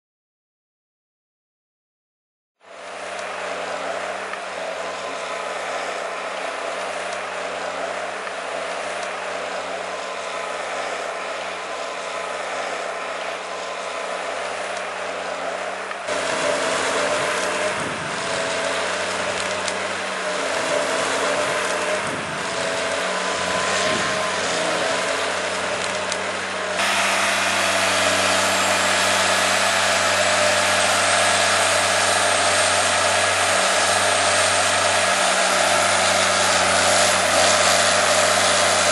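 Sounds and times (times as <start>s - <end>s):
forestry machine engine drone: 2.6s - 38.9s
mechanical rattle of track wheels: 2.8s - 38.9s.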